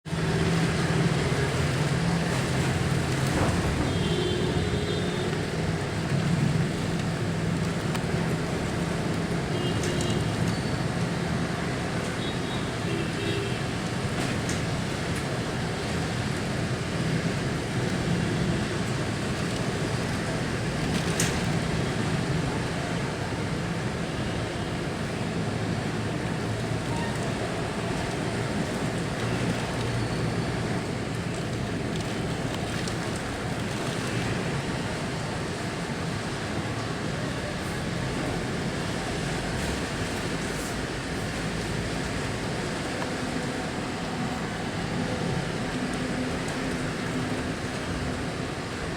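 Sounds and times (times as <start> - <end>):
road traffic: 0.0 - 48.9
rain rushing: 0.1 - 48.9.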